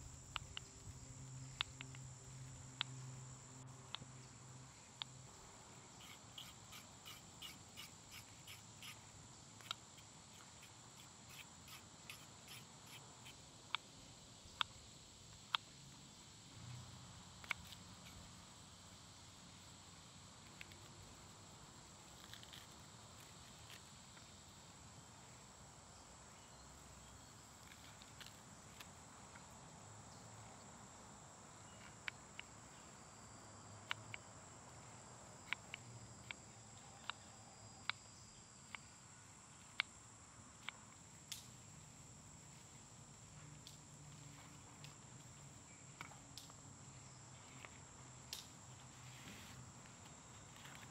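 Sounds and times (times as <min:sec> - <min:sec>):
high-pitched insects droning: 0:00.0 - 0:50.9.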